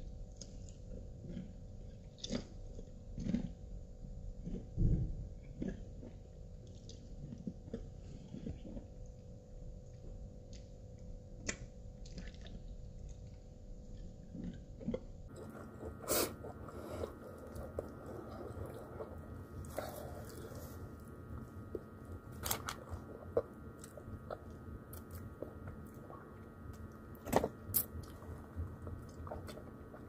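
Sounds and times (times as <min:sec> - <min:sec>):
steady low hum: 0:00.0 - 0:30.0
chewing and lip smacks: 0:00.3 - 0:03.6, 0:05.4 - 0:09.2, 0:11.4 - 0:30.0.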